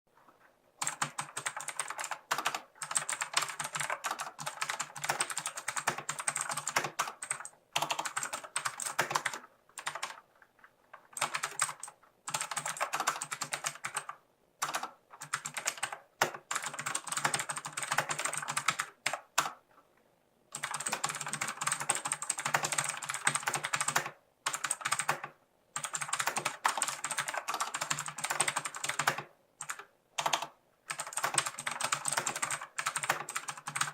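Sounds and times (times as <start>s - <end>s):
mechanical keyboard typing: 0.8s - 10.2s, 11.0s - 19.6s, 20.5s - 33.9s.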